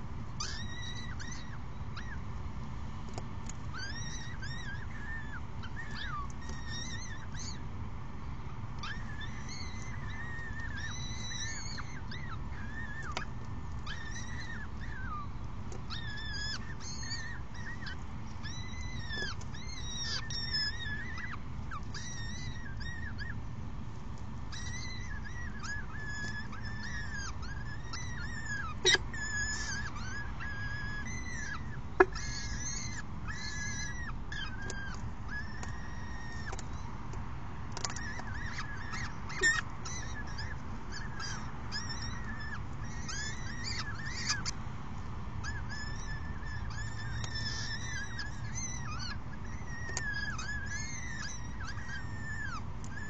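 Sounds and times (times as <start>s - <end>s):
falcon chicks cheeping: 0.0s - 53.0s
low city rumble: 0.0s - 53.0s.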